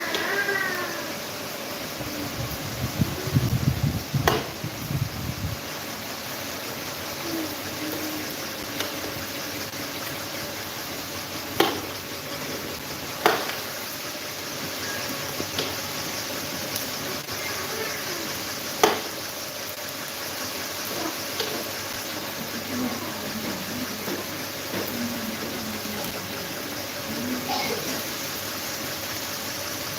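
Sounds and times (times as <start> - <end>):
electric fan rushing air: 0.0 - 29.9.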